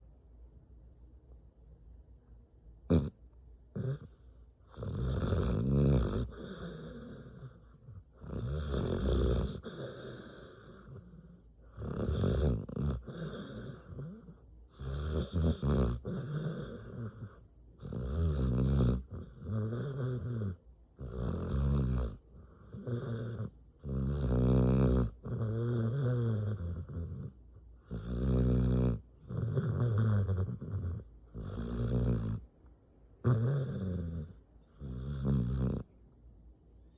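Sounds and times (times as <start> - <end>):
dog snoring: 2.9 - 32.5, 33.2 - 35.9.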